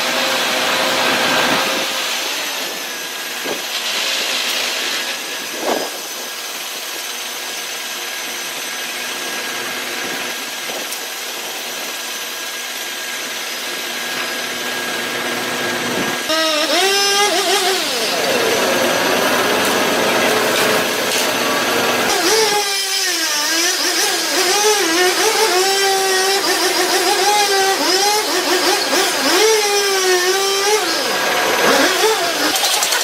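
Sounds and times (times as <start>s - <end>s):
chainsaw cutting: 0.0s - 33.0s.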